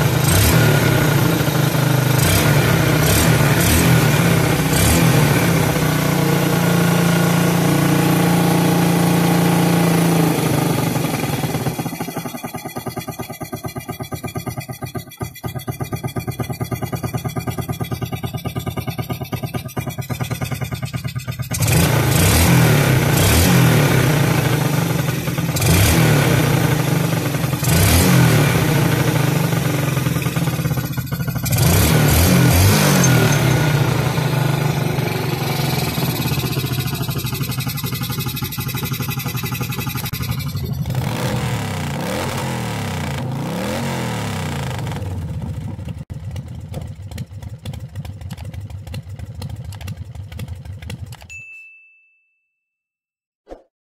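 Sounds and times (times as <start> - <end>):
motorcycle engine idling and revving: 0.0 - 51.4.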